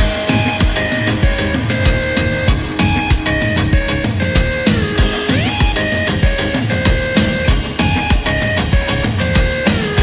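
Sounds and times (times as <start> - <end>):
heavy music with low drum beat: 0.0 - 10.0.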